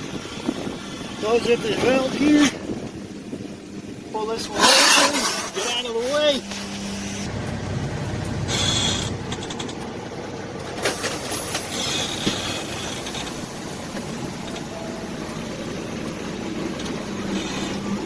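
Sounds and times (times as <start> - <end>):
road noise: 0.0 - 18.0
truck engine rumble: 0.0 - 18.0.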